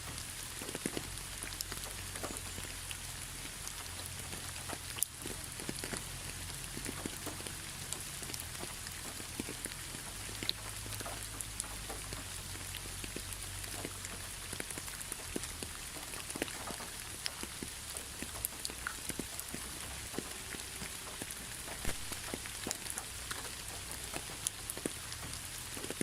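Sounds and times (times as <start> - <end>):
raindrops ticking close by: 0.0 - 26.0
steady rain hiss: 0.0 - 26.0.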